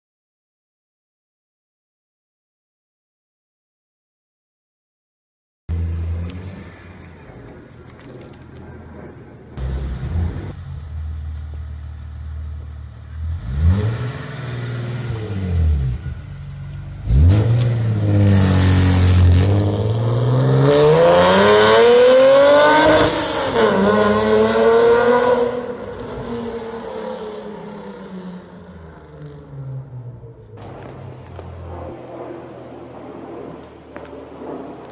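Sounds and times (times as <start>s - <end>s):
car engine idling and accelerating: 5.7s - 34.9s.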